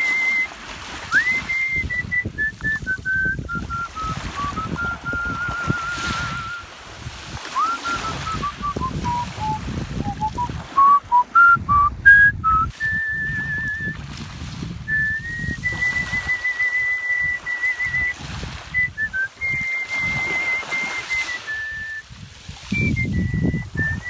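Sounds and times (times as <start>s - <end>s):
person whistling a melody: 0.0s - 0.5s, 1.1s - 6.7s, 7.5s - 14.0s, 14.9s - 22.1s, 22.7s - 24.0s.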